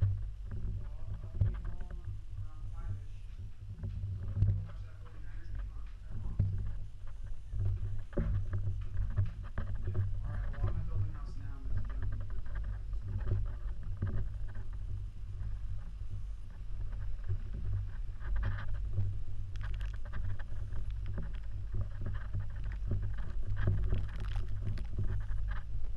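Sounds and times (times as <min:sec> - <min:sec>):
wind rumble on microphone: 0:00.0 - 0:25.9.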